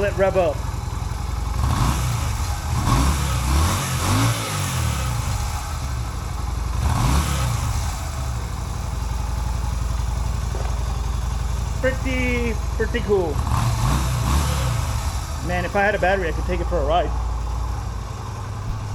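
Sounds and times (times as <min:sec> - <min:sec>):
motorcycle engine revving and idling: 0:00.0 - 0:18.9.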